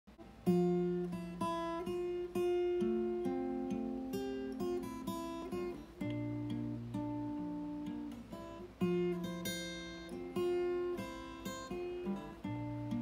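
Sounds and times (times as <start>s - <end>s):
fingerstyle acoustic guitar: 0.1s - 13.0s.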